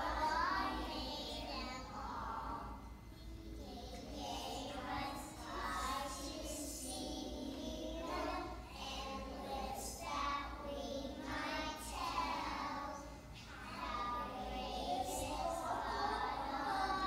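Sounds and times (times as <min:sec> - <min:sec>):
children singing: 0:00.0 - 0:02.8, 0:03.6 - 0:17.0.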